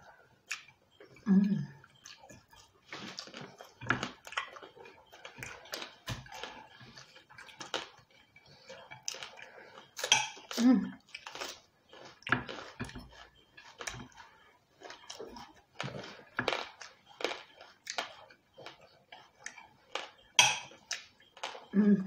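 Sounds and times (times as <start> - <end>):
crunching and chewing food: 0.0 - 21.8.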